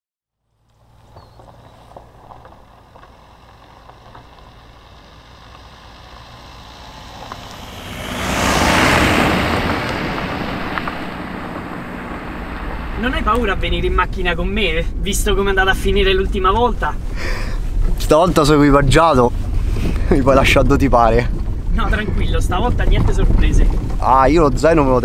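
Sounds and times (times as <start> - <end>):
car engine hum: 0.4 - 25.0
tyres on gravel: 0.6 - 25.0.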